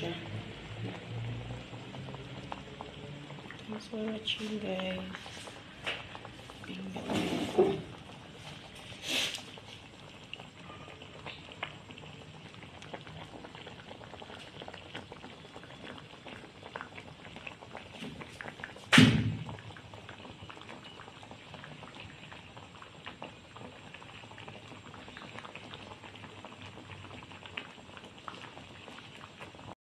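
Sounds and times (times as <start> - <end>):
pot simmering and bubbling: 0.0 - 29.8.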